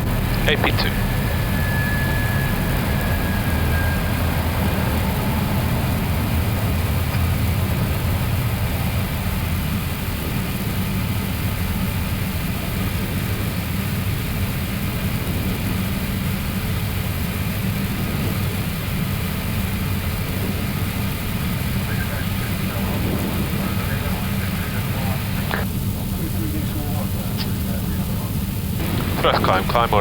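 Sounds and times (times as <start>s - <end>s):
aircraft engine and airflow drone: 0.0s - 30.0s.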